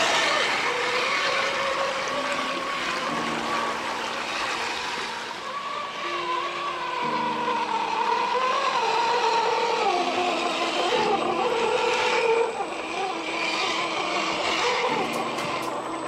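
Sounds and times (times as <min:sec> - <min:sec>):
electric motors whining: 0:00.0 - 0:16.0
running water: 0:00.0 - 0:16.0.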